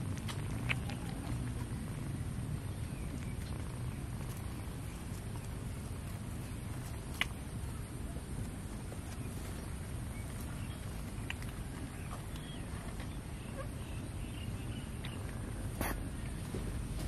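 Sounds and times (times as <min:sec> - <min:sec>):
cats purring: 0:00.0 - 0:17.0.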